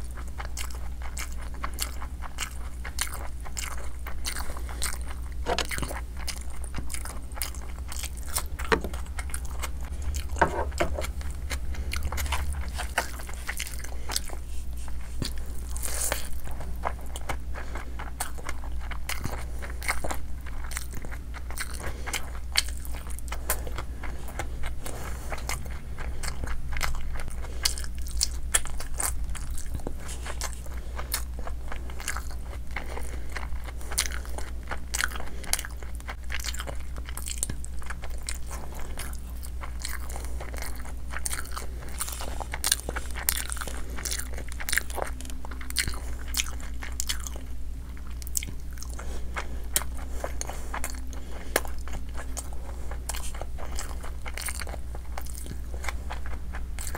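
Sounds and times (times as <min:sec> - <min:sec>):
person chewing chicken: 0:00.0 - 0:56.9
steady low hum: 0:00.0 - 0:56.9.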